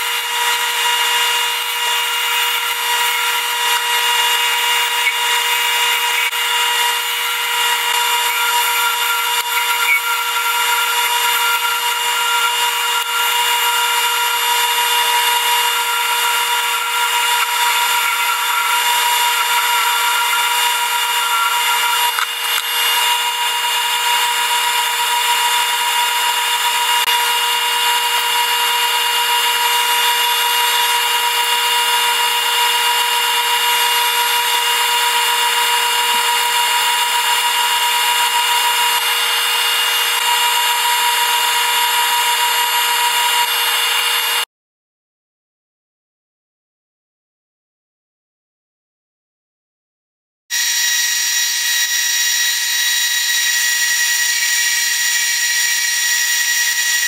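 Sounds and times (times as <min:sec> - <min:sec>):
wood lathe whine: 0:00.0 - 0:44.5, 0:50.5 - 0:57.0.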